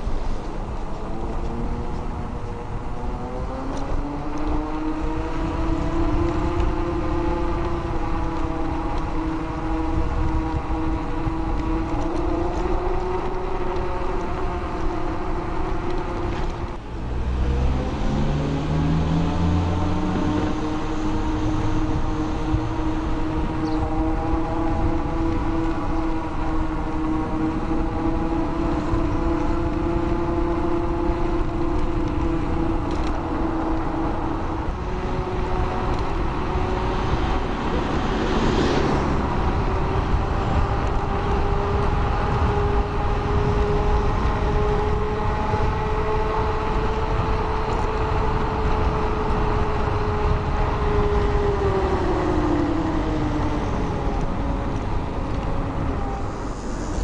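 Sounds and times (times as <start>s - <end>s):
electric scooter tyres whining: 0.0s - 57.0s
road and wind rumble: 0.0s - 57.0s.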